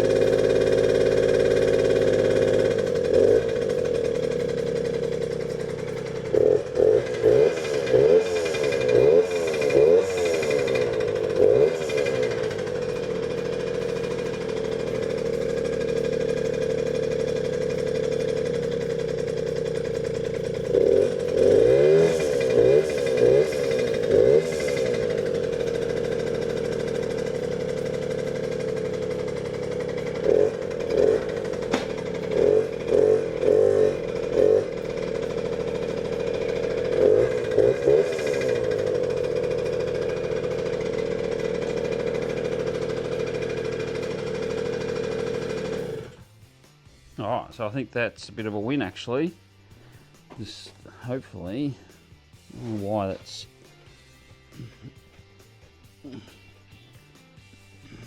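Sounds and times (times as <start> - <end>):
small two-stroke engine revving: 0.0 - 47.0, 49.8 - 58.0.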